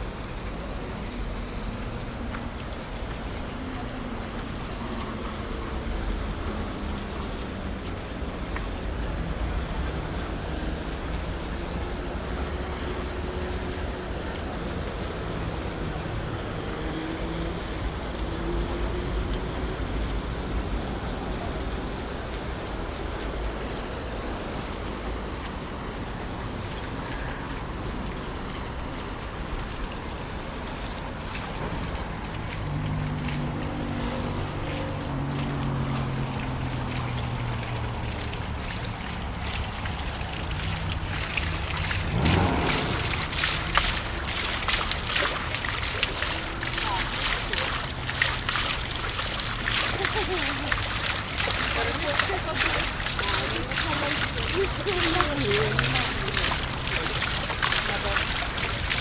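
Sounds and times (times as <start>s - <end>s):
deep engine-like hum: 0.0s - 59.0s
distant traffic rumble: 0.0s - 59.0s.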